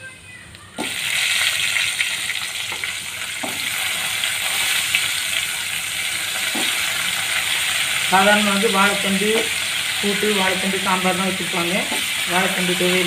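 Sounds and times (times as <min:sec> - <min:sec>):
food sizzling in hot oil: 0:00.8 - 0:13.0.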